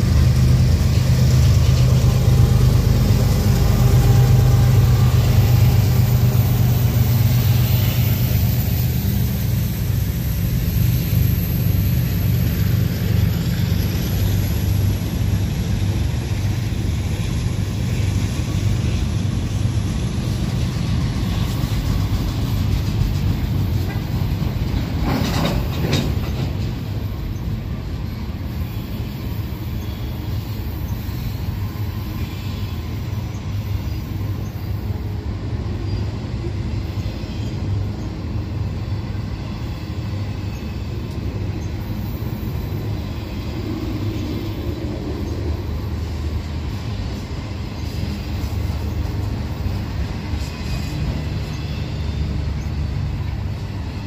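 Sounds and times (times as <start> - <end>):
freight train wheels rumbling: 0.0 - 54.0
train clatter: 0.0 - 54.0.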